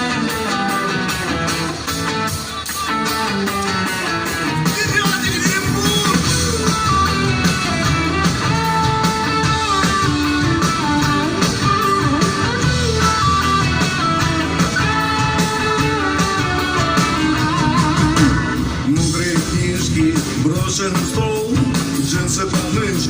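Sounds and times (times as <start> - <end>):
guitar melody: 0.0 - 23.0
rock band playing: 0.0 - 23.0.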